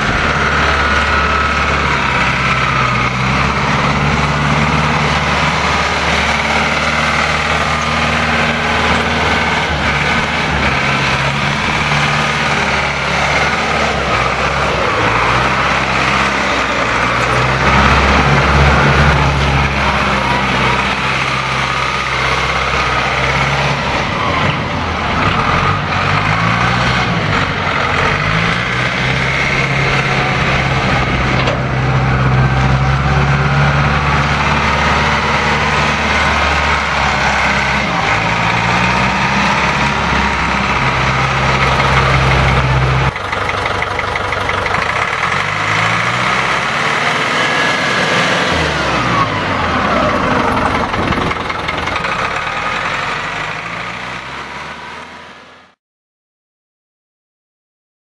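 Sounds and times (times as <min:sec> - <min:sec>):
diesel engine revving: 0:00.0 - 0:55.8.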